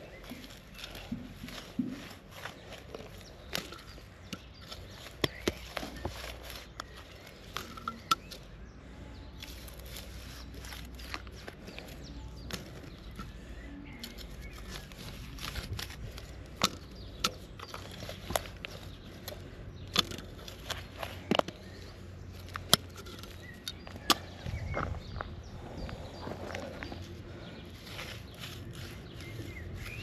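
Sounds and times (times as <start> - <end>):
dry soil crunching and clicking: 0.0 - 30.0.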